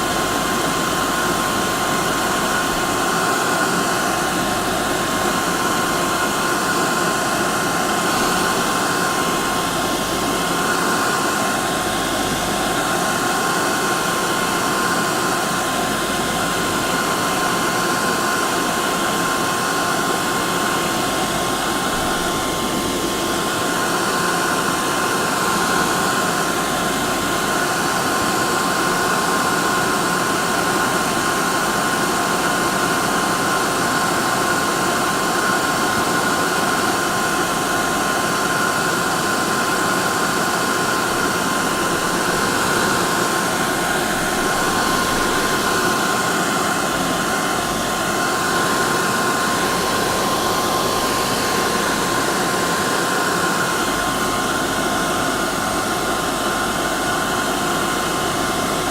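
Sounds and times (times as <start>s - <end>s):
hair dryer blowing: 0.0s - 58.9s.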